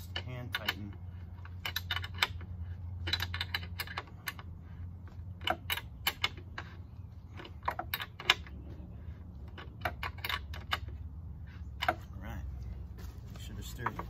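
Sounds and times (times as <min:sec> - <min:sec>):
nut tightening on bolt clicking: 0:00.0 - 0:08.6, 0:09.4 - 0:12.1.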